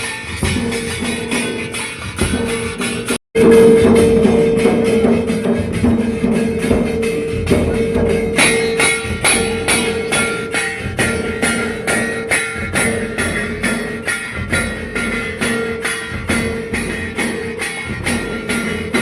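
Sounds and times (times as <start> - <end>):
drums beating steadily: 0.0 - 19.0
high melody line: 0.0 - 19.0
jingling metal percussion: 0.0 - 19.0
steady held tone: 0.0 - 19.0.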